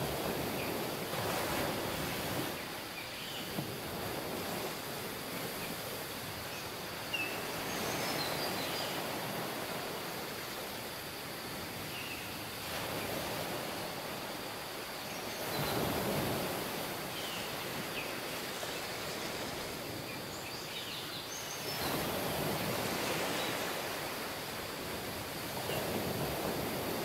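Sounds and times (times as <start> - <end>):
ocean surf washing onto beach: 0.0 - 27.0.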